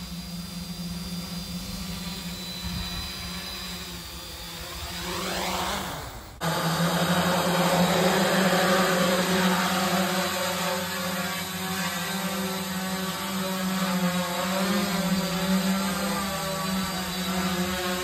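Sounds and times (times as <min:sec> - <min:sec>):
quadcopter propellers buzzing: 0:00.0 - 0:18.0.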